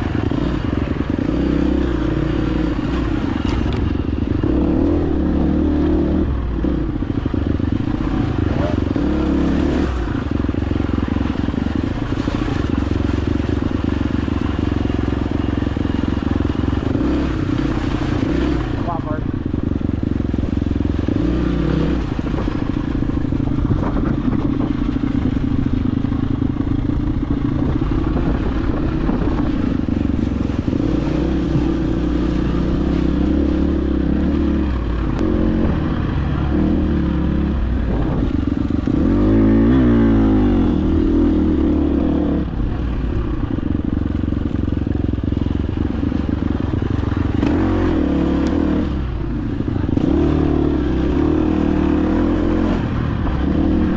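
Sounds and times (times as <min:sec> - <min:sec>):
dirt bike engine revving: 0:00.0 - 0:12.8, 0:13.6 - 0:42.8, 0:46.1 - 0:53.9.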